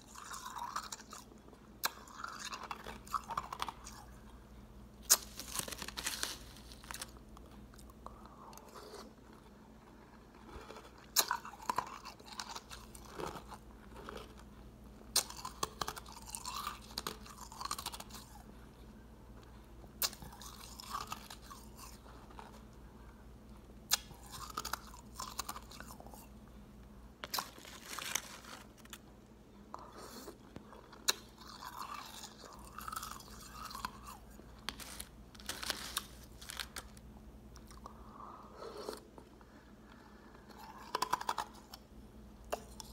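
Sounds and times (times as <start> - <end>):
person chewing ice: 0.0 - 4.4, 5.0 - 26.4, 27.2 - 42.9.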